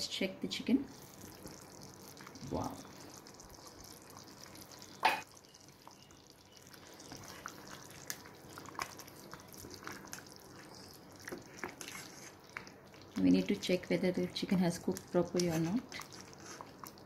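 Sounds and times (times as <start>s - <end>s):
thick gravy bubbling in a pot: 0.5s - 17.0s
spatula stirring thick gravy: 0.9s - 17.0s.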